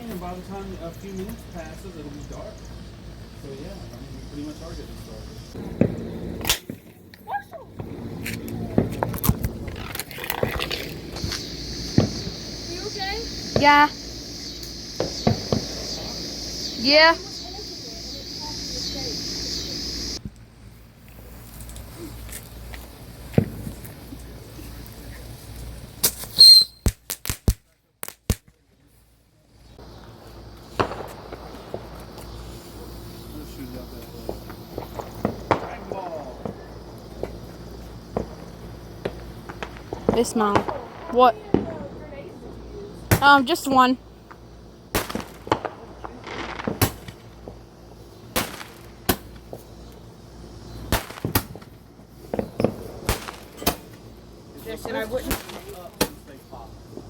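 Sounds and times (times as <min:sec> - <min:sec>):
fireworks popping and cracking: 0:05.6 - 0:20.4, 0:21.0 - 0:28.6, 0:29.8 - 0:42.1, 0:43.1 - 0:49.7, 0:50.8 - 0:57.0.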